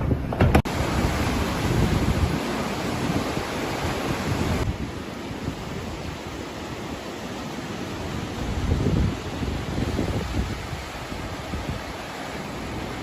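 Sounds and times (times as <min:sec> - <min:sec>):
surf rushing: 0:00.0 - 0:13.0
wind buffeting microphone: 0:00.0 - 0:13.0.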